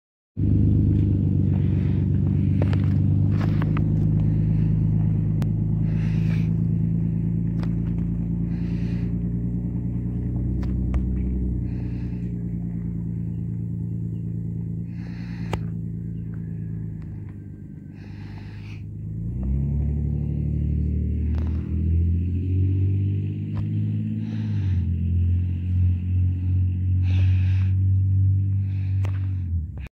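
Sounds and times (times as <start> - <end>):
pickup truck engine rumbling: 0.4 - 29.9.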